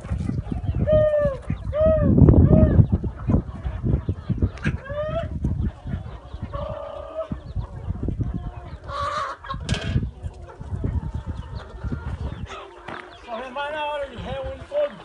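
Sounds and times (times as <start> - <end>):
loud harsh chicken calls: 0.0 - 14.3
chickens clucking and calling: 0.0 - 15.0.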